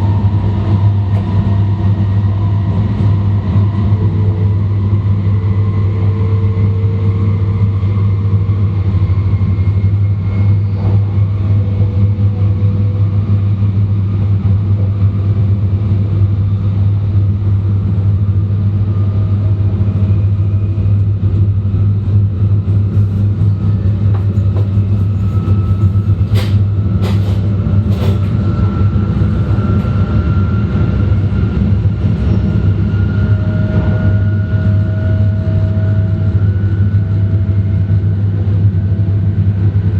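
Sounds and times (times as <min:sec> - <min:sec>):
train low rumble: 0:00.0 - 0:39.9.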